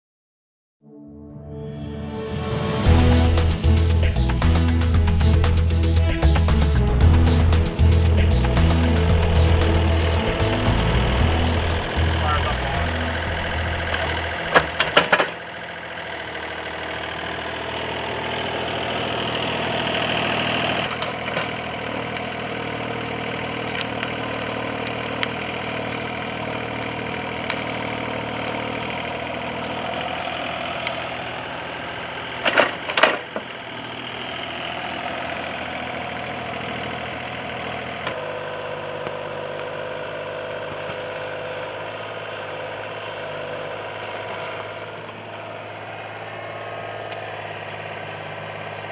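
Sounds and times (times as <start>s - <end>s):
excavator diesel engine running: 2.6s - 48.9s.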